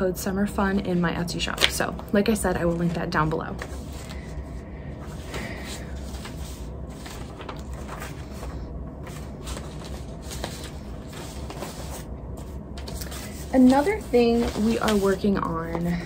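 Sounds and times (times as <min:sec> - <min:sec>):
steady low hum: 0:00.0 - 0:16.0
paper rustling and shuffling: 0:00.8 - 0:16.0.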